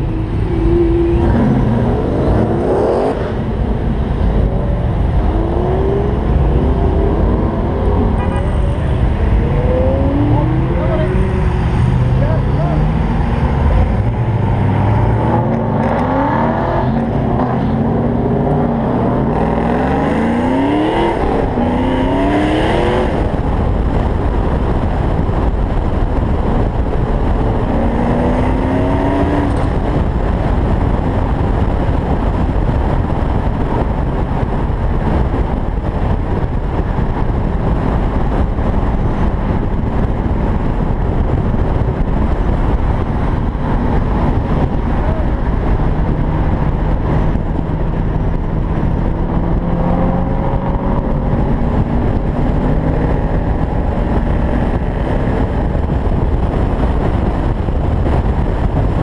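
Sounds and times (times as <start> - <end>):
car engine accelerating: 0.0 - 59.0
wind rushing over microphone: 0.0 - 59.0.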